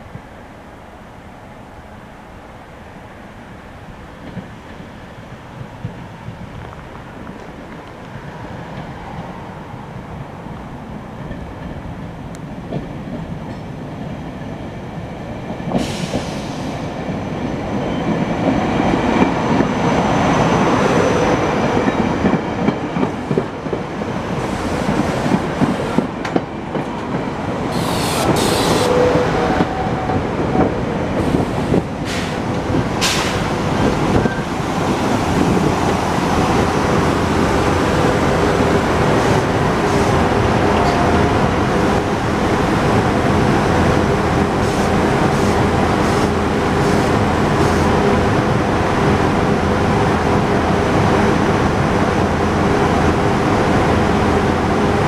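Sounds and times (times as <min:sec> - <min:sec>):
electric train rolling past: 0:00.0 - 0:55.0.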